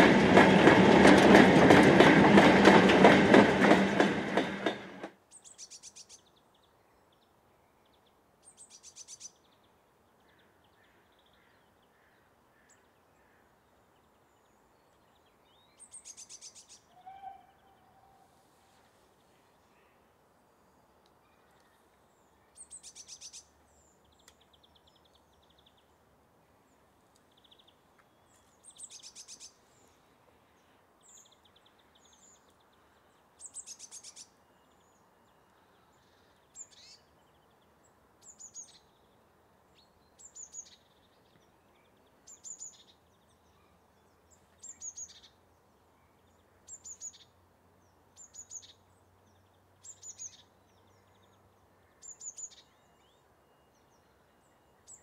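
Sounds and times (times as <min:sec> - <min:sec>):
faint background hiss: 0:05.1 - 0:55.0.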